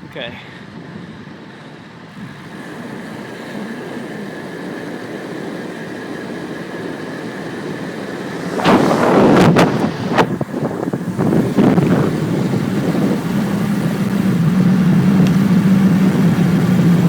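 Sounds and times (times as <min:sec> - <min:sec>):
bicycle road noise: 0:00.0 - 0:17.0
wind buffeting on microphone: 0:00.6 - 0:17.0
faint high whine: 0:02.1 - 0:17.0.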